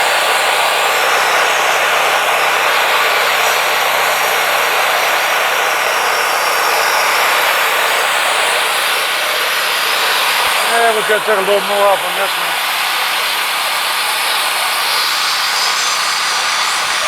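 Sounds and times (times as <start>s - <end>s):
band sawmill cutting log: 0.0s - 17.0s.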